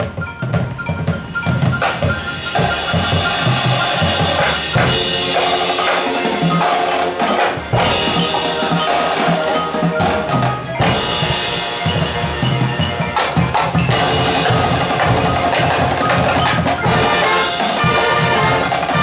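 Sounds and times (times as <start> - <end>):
drums: 0.0 - 19.0
mallet instruments struck: 0.0 - 19.0
marching band playing: 0.0 - 19.0.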